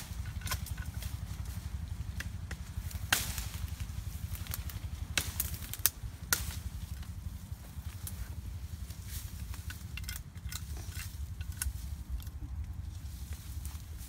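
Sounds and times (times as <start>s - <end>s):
twigs snapping: 0.0s - 7.2s, 7.8s - 13.8s
steady low rumble: 0.0s - 14.0s.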